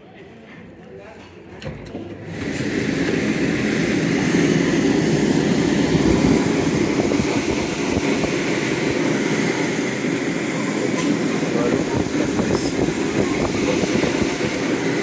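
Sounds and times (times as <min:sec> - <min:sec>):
blower fan rushing air: 0:01.6 - 0:15.0.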